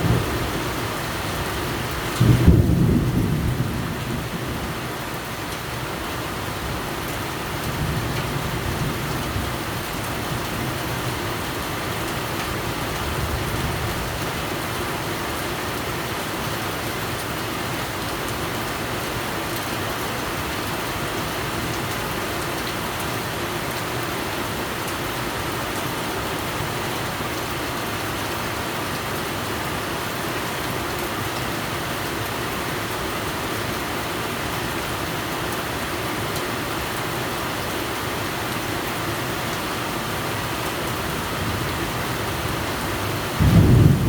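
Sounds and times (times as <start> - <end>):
steady rain hiss: 0.0 - 44.0.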